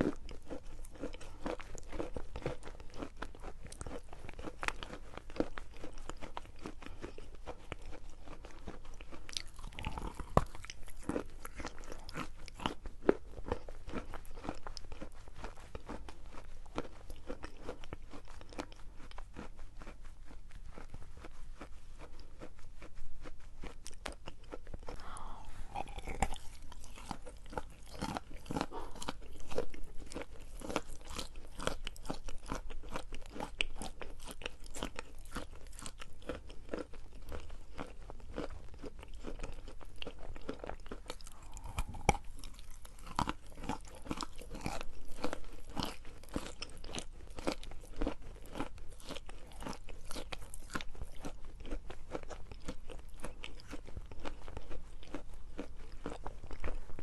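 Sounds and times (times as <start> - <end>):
chalk being chewed: 0.0 - 57.0.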